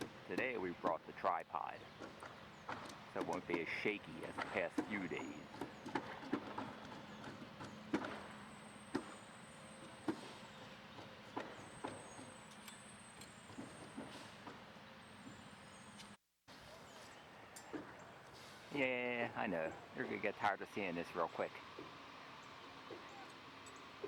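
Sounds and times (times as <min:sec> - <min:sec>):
roofers knocking and banging: 0:00.0 - 0:16.0, 0:17.6 - 0:24.0.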